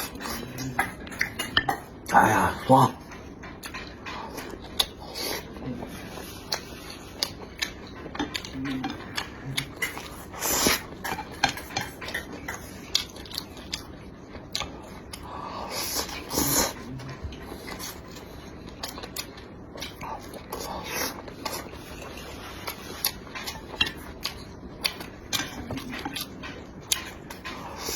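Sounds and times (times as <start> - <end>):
close chewing and mouth smacks: 0.0 - 27.9.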